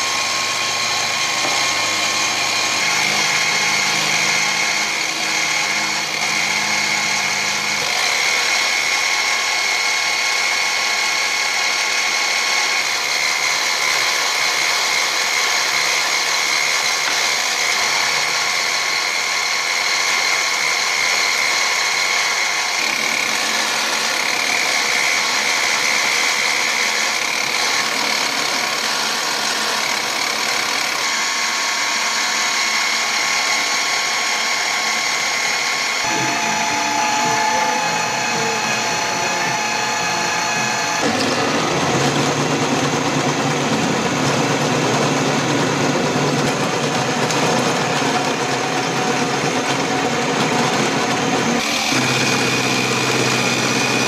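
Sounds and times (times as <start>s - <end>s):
drill cutting into steel: 0.0s - 54.0s
mill motor whining: 0.0s - 54.0s.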